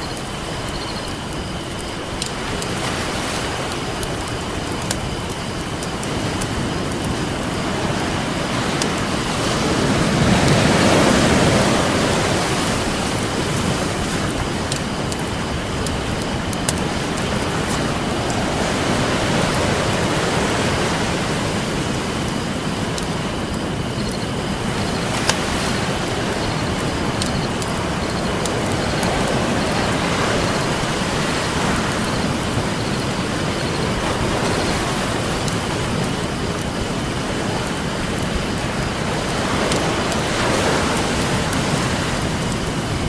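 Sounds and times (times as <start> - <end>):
campfire crackling: 0.0 - 43.0
ocean surf washing: 0.0 - 43.0.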